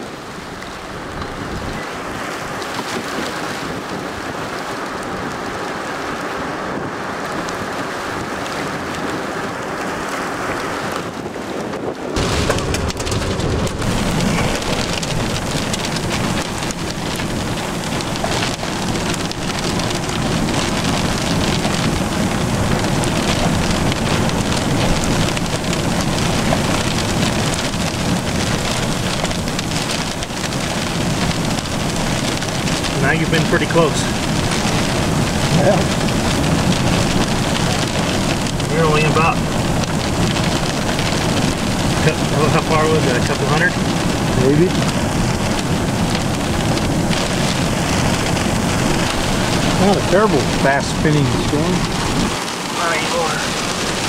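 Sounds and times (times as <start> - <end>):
steady rain in thunderstorm: 0.0 - 54.0.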